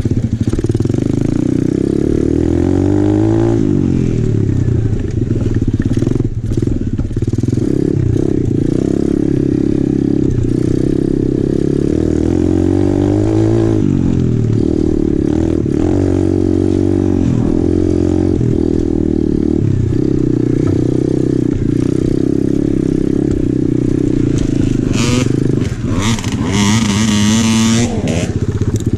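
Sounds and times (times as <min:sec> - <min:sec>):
motorbike engine revving: 0:00.0 - 0:28.9.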